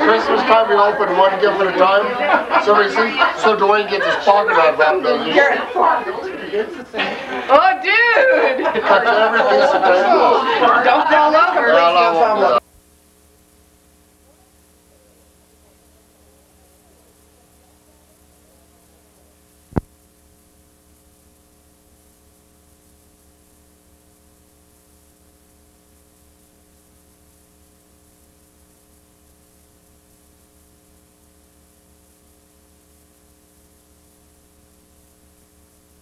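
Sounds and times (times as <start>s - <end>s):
faint tape hiss: 0.0s - 36.0s
mains hum: 0.0s - 36.0s.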